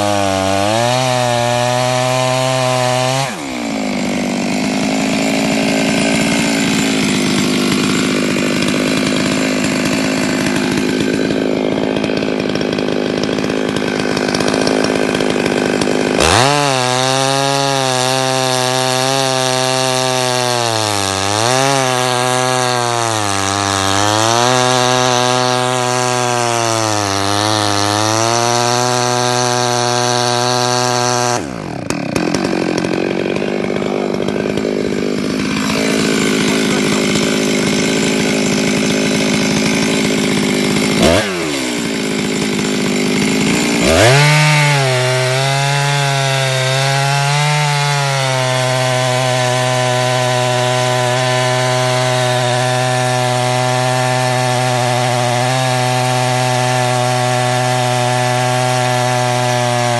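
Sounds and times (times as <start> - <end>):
chainsaw cutting timber: 0.0 - 59.9.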